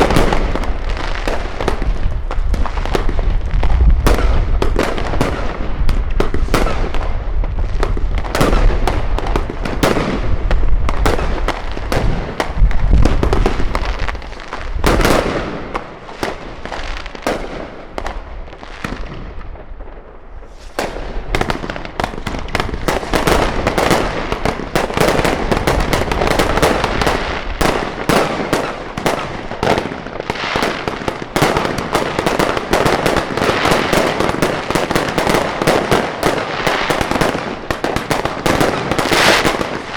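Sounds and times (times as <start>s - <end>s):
deep firework booms: 0.0s - 39.9s
fireworks bangs and crackling: 0.0s - 39.9s.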